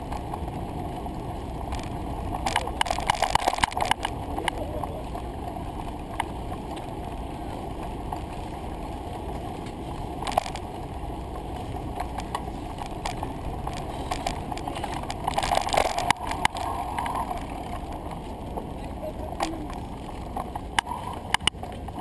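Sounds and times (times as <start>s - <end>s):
bicycle clicks and rattles: 0.0s - 22.0s
tyres rumbling on pavement: 0.0s - 22.0s
wind: 0.0s - 22.0s.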